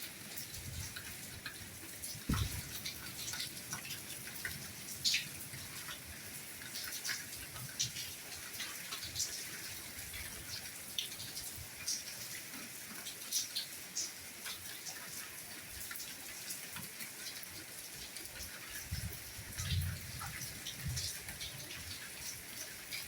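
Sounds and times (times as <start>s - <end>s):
steady soft rain: 0.0s - 23.0s.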